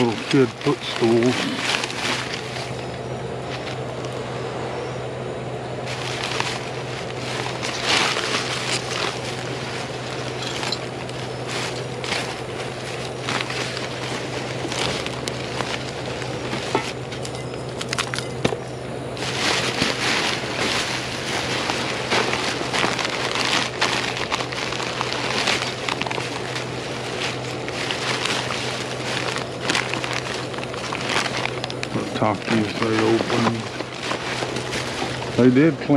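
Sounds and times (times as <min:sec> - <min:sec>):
plastic bags and cardboard rustling: 0:00.0 - 0:04.3, 0:05.7 - 0:35.9
steady low hum: 0:00.0 - 0:35.9.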